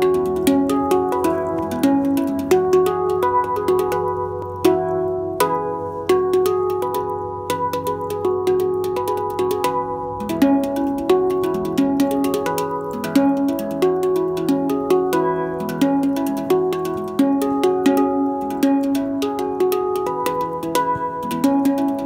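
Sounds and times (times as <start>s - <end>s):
handpan notes: 0.0s - 22.0s.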